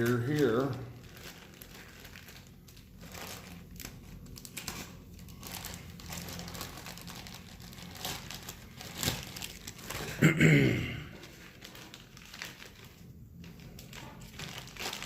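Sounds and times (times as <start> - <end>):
packaging crinkling: 0.0 - 10.2, 11.1 - 15.0.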